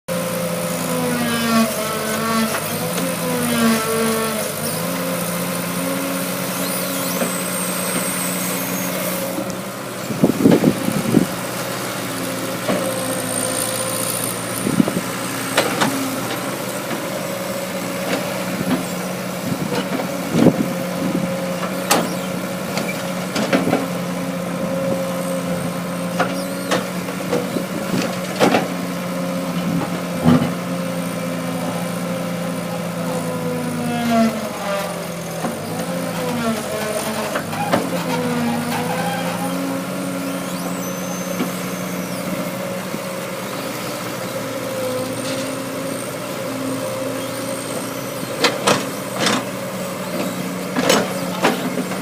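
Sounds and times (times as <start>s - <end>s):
excavator diesel engine running: 0.1s - 52.0s.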